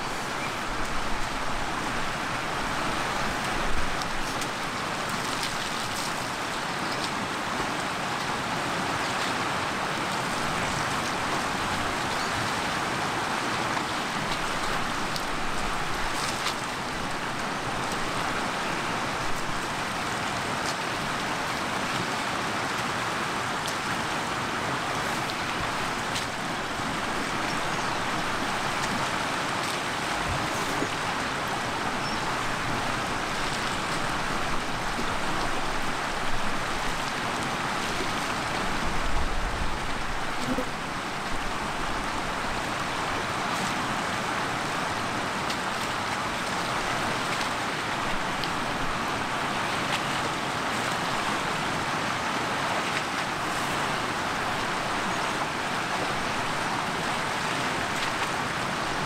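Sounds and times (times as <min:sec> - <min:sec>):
river water over rocks: 0:00.0 - 0:59.0.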